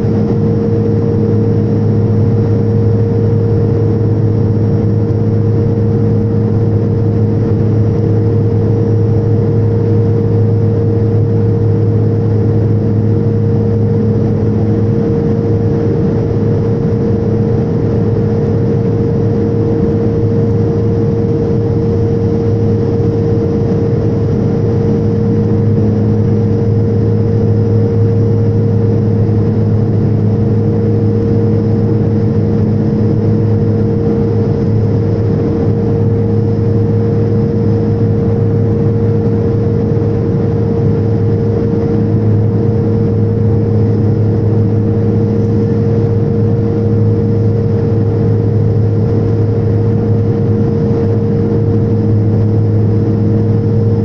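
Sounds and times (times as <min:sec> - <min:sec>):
propeller engine hum: 0:00.0 - 0:54.0.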